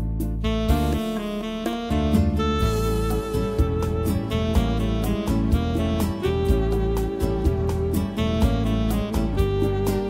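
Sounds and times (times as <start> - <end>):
steady bass line: 0.0 - 10.0
held melody note: 0.4 - 10.0.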